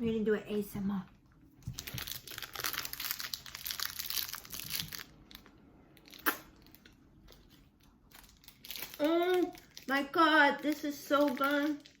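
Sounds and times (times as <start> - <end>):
crunching candy: 1.8 - 12.0.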